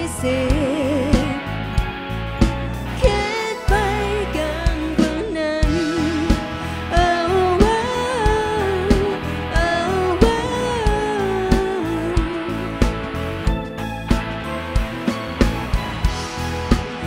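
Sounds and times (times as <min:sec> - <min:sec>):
bending lead guitar melody: 0:00.0 - 0:17.0
drum kit beat: 0:00.0 - 0:17.0
live pop-rock band: 0:00.0 - 0:17.0.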